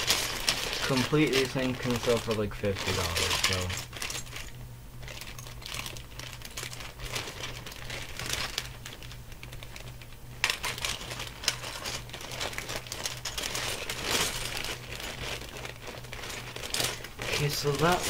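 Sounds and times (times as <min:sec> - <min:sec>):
plastic pieces clacking: 0:00.0 - 0:18.0.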